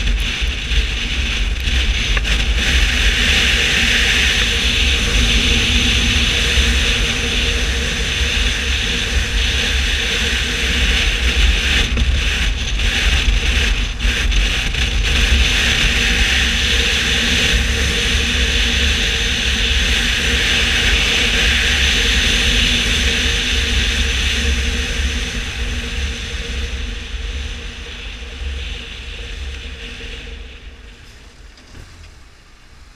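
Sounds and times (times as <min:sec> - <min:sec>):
motorcycle engine rumble: 0:00.0 - 0:32.9
wind rush and road noise: 0:00.0 - 0:32.9.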